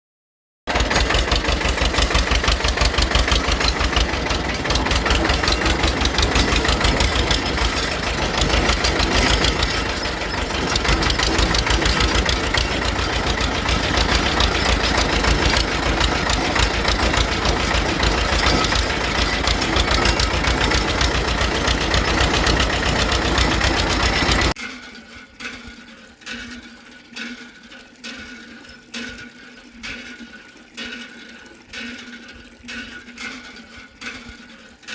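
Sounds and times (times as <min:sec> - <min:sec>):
small motor rattling: 0:00.7 - 0:34.9.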